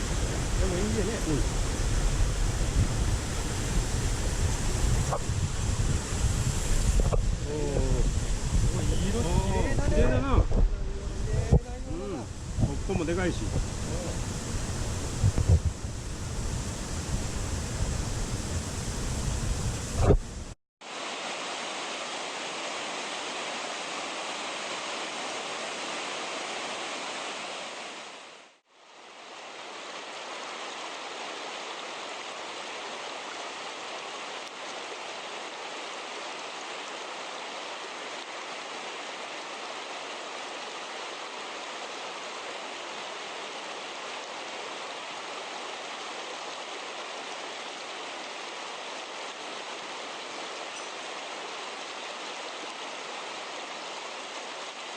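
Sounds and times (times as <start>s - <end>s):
mountain stream water rushing: 0.0s - 54.9s.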